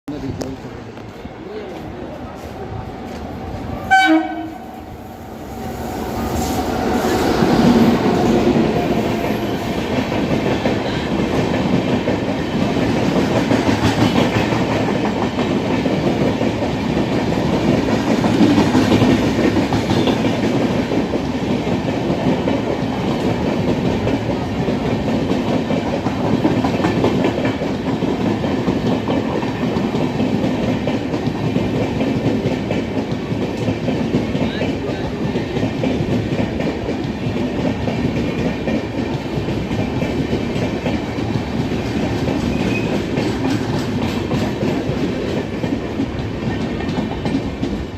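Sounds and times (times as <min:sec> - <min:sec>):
train rumbling at speed: 0:00.1 - 0:47.9.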